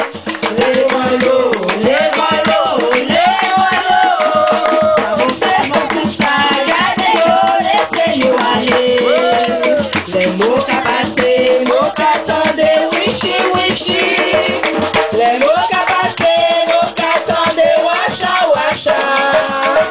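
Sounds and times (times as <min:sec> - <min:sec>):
hand percussion beat: 0:00.0 - 0:19.9
shaken rattles: 0:00.0 - 0:19.9
person singing: 0:00.4 - 0:19.9.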